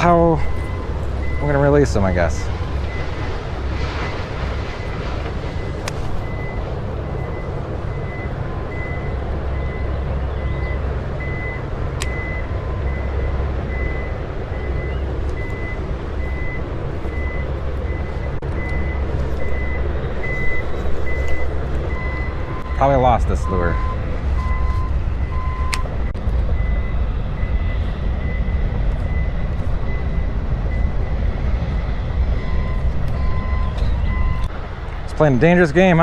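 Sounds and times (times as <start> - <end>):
low steady rumble: 0.0 - 36.0
reversing alarm beeps: 0.4 - 3.2, 5.6 - 25.8, 26.5 - 34.5.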